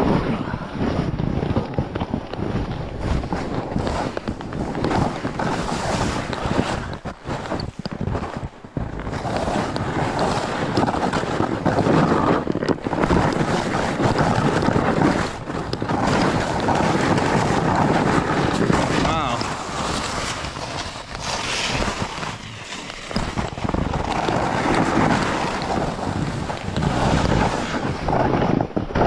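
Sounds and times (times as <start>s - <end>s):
snowboard scraping over snow: 0.0s - 29.0s
wind buffeting microphone: 0.0s - 29.0s.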